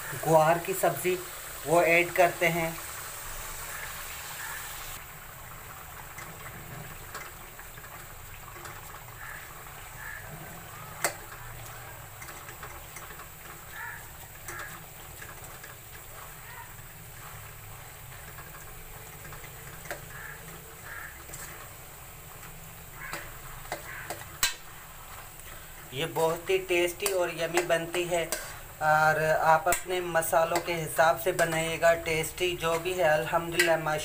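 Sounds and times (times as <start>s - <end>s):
spoon stirring in a pan: 6.1s - 34.0s.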